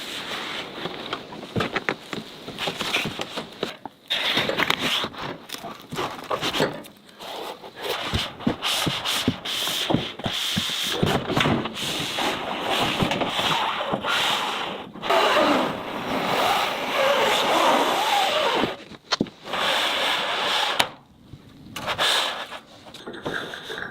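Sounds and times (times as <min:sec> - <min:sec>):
rubbing and scraping: 0:00.0 - 0:21.0, 0:21.7 - 0:23.9.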